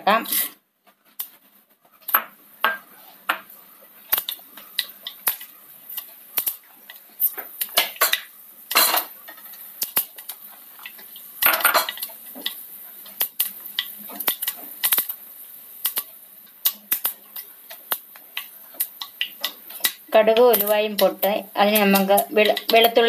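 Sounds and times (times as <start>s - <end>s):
oil sizzling: 0.0s - 23.0s
seeds popping in hot oil: 2.0s - 23.0s.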